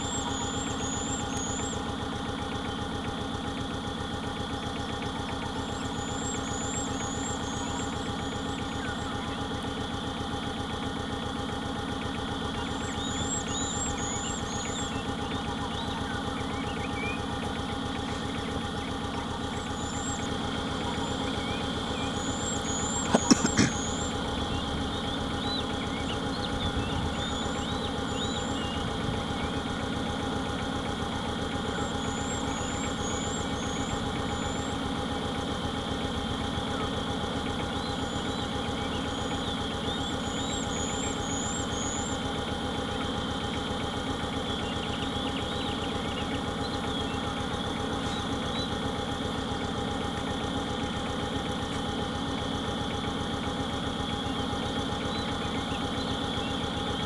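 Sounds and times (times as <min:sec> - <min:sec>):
birds chirping: 0:00.0 - 0:57.0
vehicle engine idling: 0:00.0 - 0:57.0.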